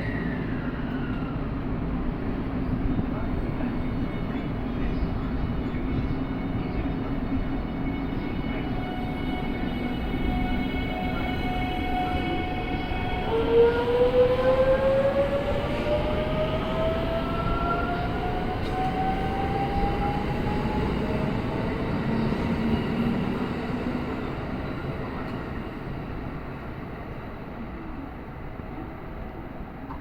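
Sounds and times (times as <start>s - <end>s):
electric train hum: 0.0s - 30.0s
train rumble: 0.0s - 30.0s.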